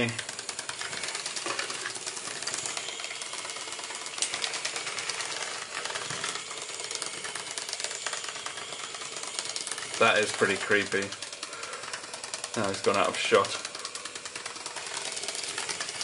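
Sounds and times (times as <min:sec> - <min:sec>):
toy robot legs clattering: 0:00.0 - 0:16.0.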